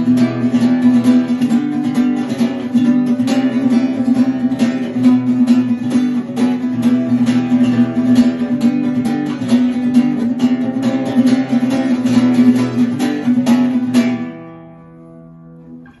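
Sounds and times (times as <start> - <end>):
acoustic guitar percussive strumming: 0.0 - 16.0.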